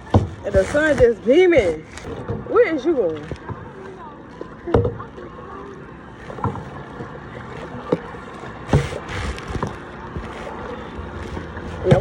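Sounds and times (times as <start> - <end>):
paddle strokes in water: 0.0 - 12.0
water splashing: 0.0 - 12.0.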